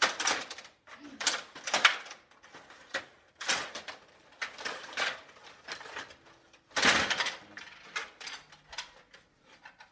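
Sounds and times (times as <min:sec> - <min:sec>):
table hockey game clattering: 0:00.0 - 0:09.9.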